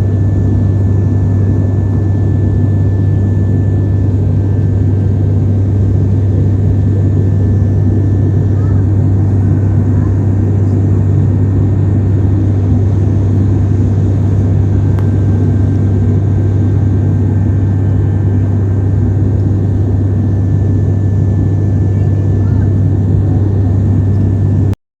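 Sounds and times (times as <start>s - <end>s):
airplane engine drone: 0.0s - 24.8s
strong low hum: 0.0s - 24.8s.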